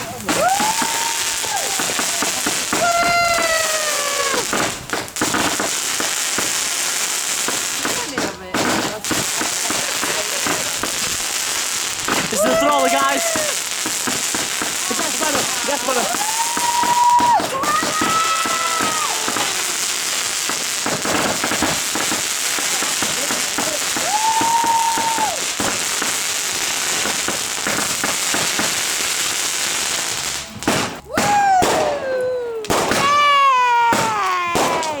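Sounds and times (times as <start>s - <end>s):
fireworks crackling and banging: 0.0s - 35.0s
fireworks whistling: 0.0s - 35.0s.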